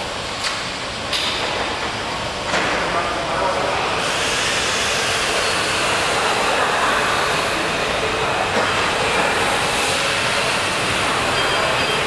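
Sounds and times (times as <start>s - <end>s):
train rushing past: 1.6s - 12.0s.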